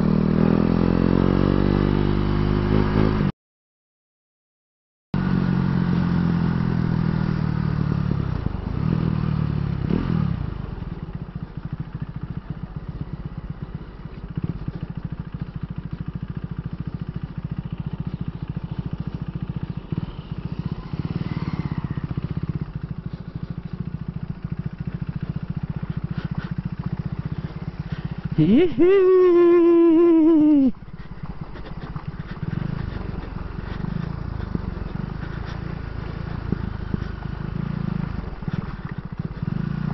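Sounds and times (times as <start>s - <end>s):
motorcycle engine running: 0.0s - 3.3s, 5.2s - 39.9s.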